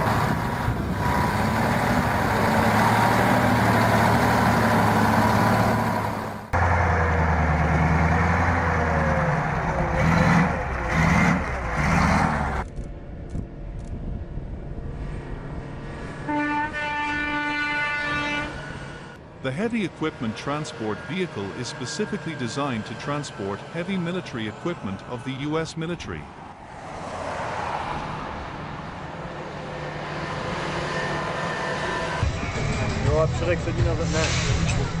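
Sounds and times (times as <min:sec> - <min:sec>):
heavy vehicle engine running: 0:00.0 - 0:16.2, 0:18.7 - 0:26.1, 0:28.4 - 0:35.0.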